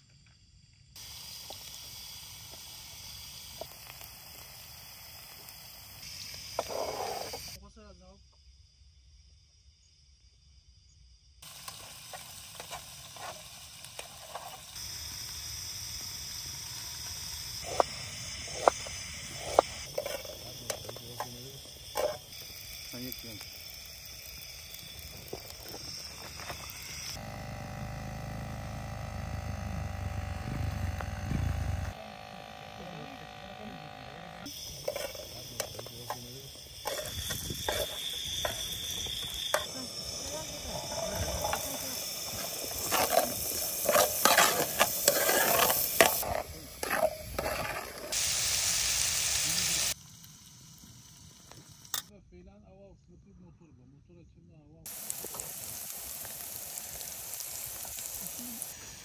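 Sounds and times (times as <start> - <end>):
cricket trilling: 0.0 - 52.2, 54.9 - 59.0
gas burner hissing: 1.0 - 7.6, 11.4 - 52.1, 54.9 - 59.0.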